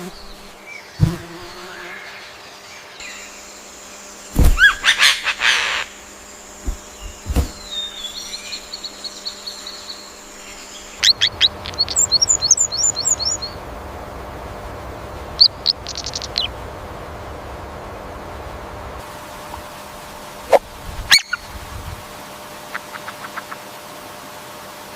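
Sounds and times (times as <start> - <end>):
songbirds chirping: 0.0 - 20.4
steady background hiss: 0.0 - 24.9.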